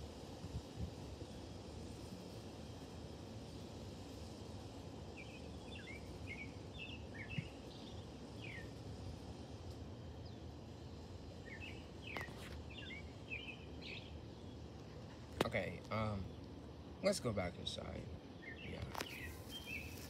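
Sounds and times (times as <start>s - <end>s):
outdoor background noise: 0.0s - 20.0s
small birds chirping: 0.4s - 20.0s.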